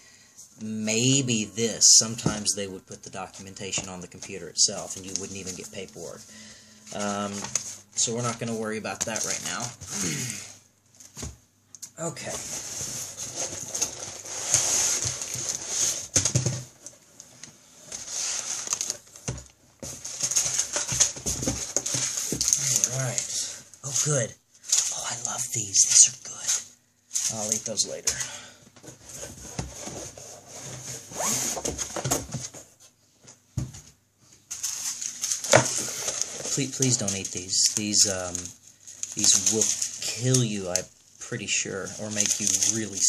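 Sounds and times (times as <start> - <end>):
packaging rustling and scraping: 1.0 - 10.1, 12.2 - 32.9, 34.4 - 43.0.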